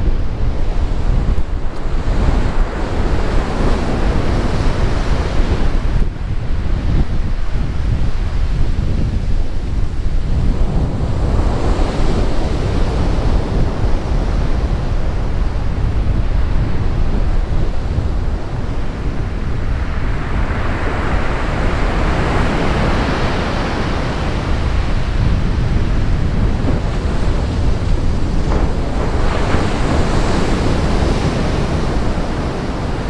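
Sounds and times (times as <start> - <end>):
surf breaking on shore: 0.0 - 33.0
wind buffeting microphone: 0.0 - 33.0.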